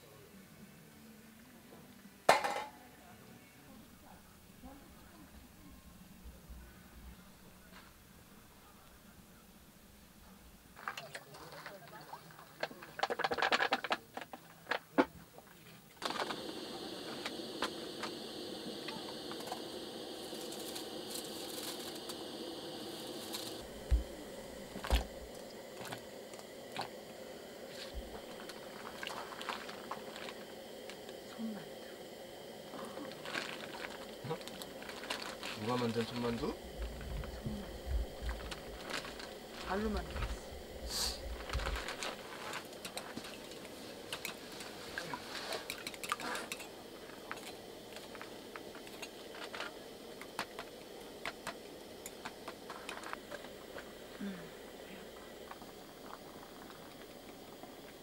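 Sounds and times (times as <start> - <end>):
broth boiling in a pot: 0.0 - 58.0
camping stove hissing: 3.8 - 58.0.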